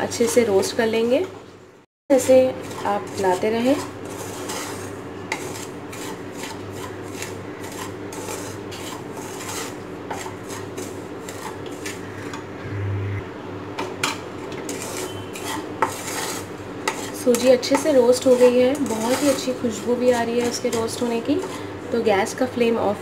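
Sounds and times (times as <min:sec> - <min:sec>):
spatula scraping semolina in pan: 0:02.1 - 0:12.4, 0:14.0 - 0:22.4.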